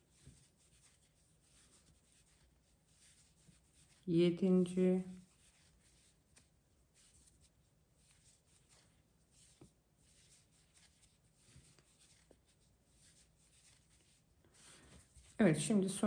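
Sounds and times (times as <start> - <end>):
crochet yarn rustling: 0.0 - 16.0.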